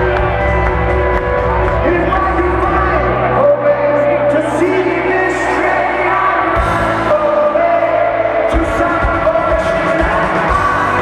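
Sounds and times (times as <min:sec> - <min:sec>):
rock band playing: 0:00.0 - 0:11.0
person singing: 0:01.6 - 0:11.0.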